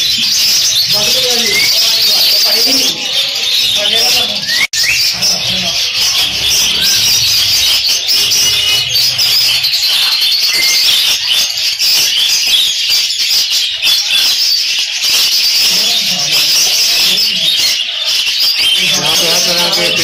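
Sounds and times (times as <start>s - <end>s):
parrots chattering and chirping: 0.0s - 20.0s.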